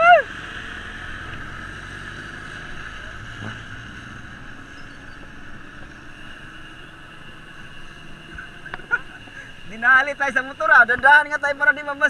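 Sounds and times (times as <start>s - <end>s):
motor traffic: 0.0s - 12.0s
tyres hissing on wet asphalt: 0.0s - 12.0s.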